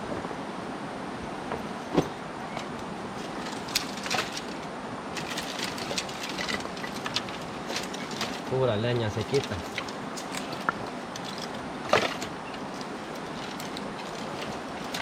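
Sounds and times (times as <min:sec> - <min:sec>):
firewood sticks knocking and cracking: 0:02.0 - 0:15.0.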